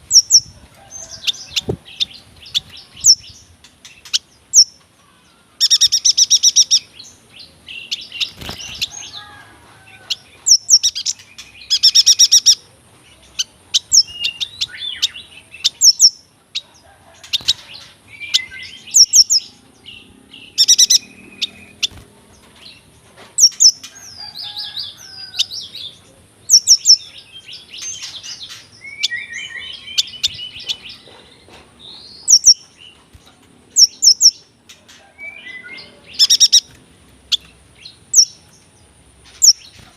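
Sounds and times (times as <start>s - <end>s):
bird chirping and trilling: 0.0s - 16.6s, 17.2s - 33.0s, 33.8s - 38.6s.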